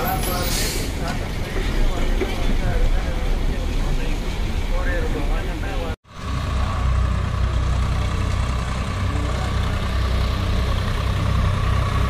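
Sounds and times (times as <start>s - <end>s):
tractor engines droning: 0.0s - 12.0s.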